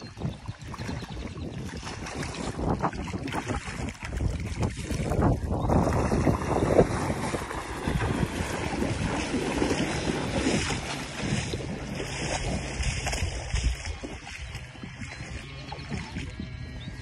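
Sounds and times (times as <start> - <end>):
wind buffeting microphone: 0.0 - 17.0
waves lapping on shore: 0.6 - 16.5.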